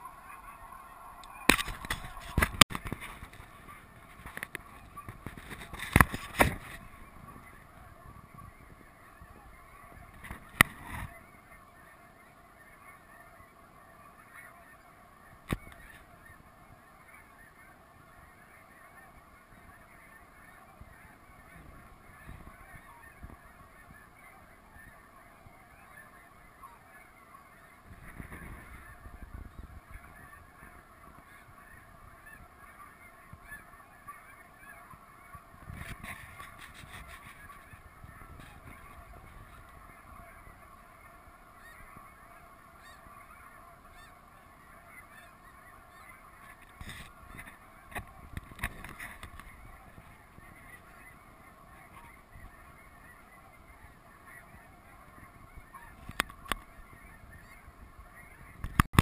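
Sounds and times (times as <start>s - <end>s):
flock of geese calling: 0.0s - 59.0s.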